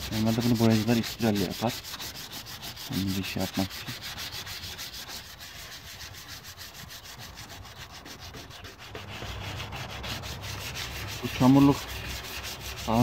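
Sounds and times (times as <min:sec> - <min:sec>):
sandpaper rubbing metal: 0:00.0 - 0:13.0.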